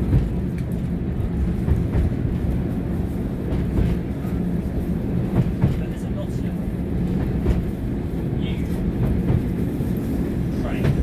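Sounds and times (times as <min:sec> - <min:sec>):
diesel engine drone: 0:00.0 - 0:11.0
wheels rumbling on track: 0:00.0 - 0:11.0.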